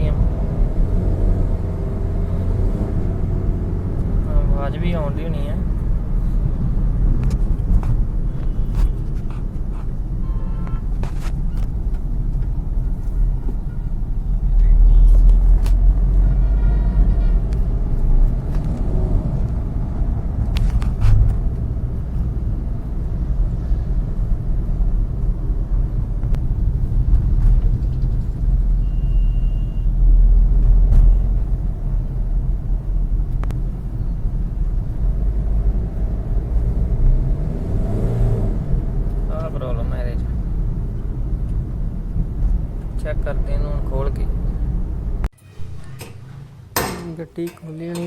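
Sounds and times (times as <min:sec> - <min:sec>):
car engine rumble and drone: 0:00.0 - 0:48.0.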